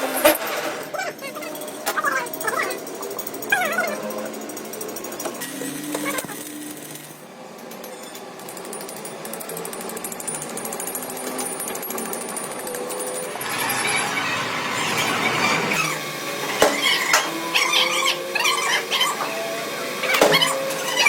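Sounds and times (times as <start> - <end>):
power tool rattling buzz: 0.0 - 21.0.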